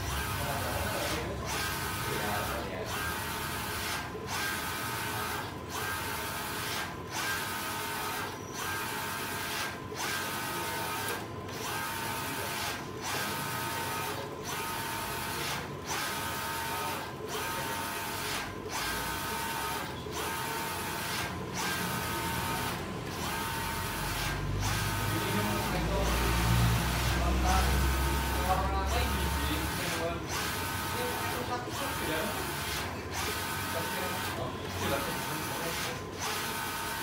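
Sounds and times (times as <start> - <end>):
printer carriage whirring: 0.0 - 37.0.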